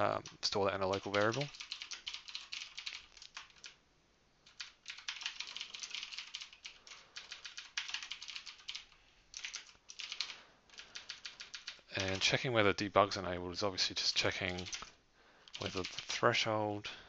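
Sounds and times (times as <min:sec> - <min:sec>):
fast typing on keyboard: 0:00.0 - 0:03.8, 0:04.4 - 0:12.4, 0:14.0 - 0:16.3.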